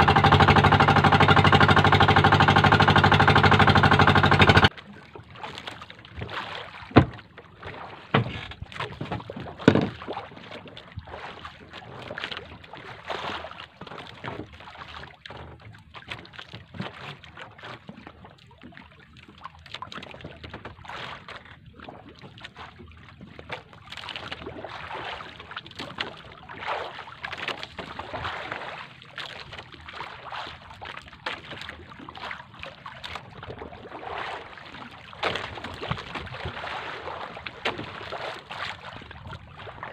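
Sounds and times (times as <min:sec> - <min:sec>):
water splashing against boat hull: 0:00.0 - 0:39.9.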